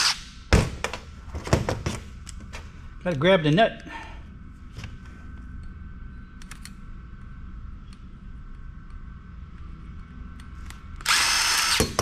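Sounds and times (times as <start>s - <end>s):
faint steady whine: 0.0s - 12.0s
steady low hum: 0.0s - 12.0s.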